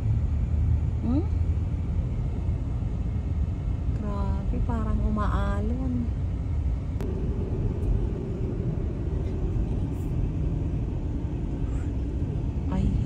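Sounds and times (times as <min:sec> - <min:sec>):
car road and engine noise: 0:00.0 - 0:13.0
faint steady hum: 0:00.0 - 0:13.0.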